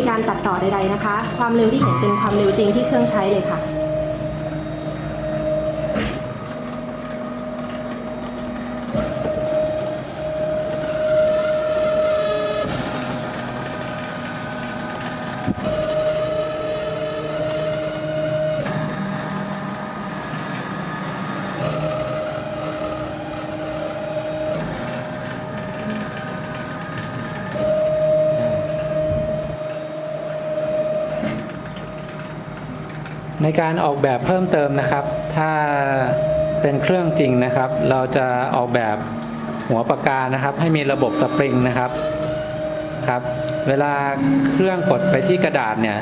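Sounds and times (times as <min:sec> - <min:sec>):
motors whining: 0:00.0 - 0:46.0.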